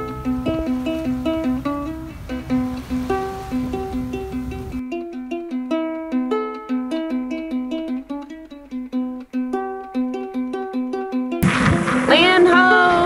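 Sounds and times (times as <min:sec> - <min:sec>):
plucked string instrument melody: 0:00.0 - 0:13.0.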